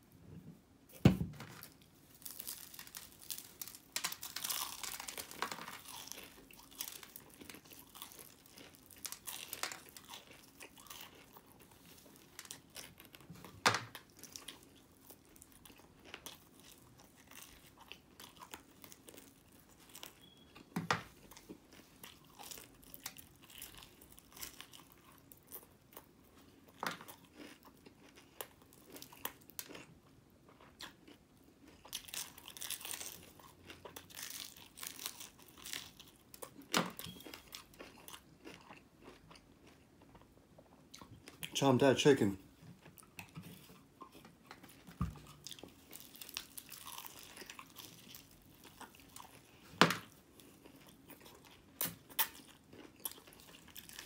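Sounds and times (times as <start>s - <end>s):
chewing fried chicken: 2.2s - 54.0s.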